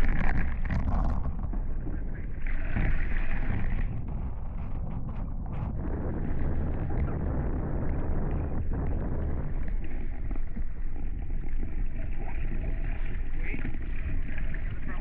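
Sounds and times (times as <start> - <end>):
water rushing along hulls: 0.0 - 15.0
wind on microphone: 0.0 - 15.0.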